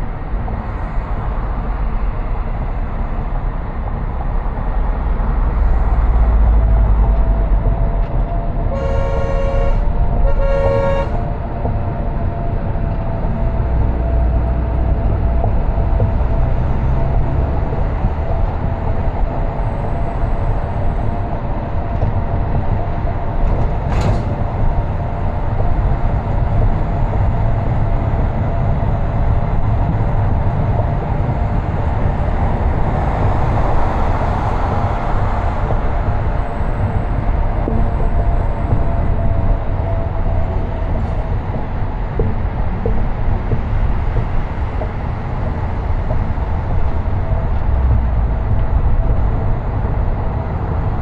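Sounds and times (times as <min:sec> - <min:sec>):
car road noise rumble: 0:00.0 - 0:51.0.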